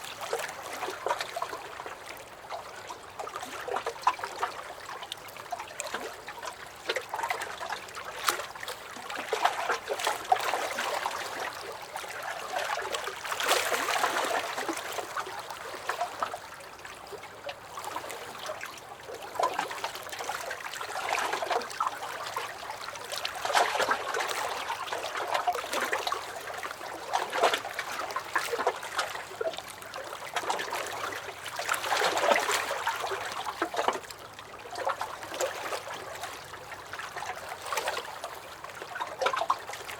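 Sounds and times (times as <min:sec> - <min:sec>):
waves lapping against dock: 0:00.0 - 0:39.9.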